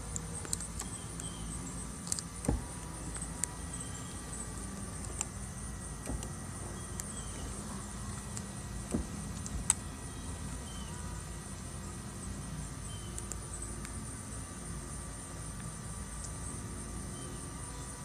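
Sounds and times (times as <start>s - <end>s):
steady low rumble: 0.0s - 17.7s
insects trilling: 0.0s - 18.0s.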